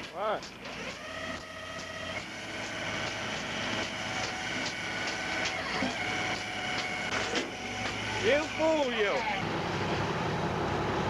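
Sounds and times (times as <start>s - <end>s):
deck machinery whining: 0.0s - 11.0s.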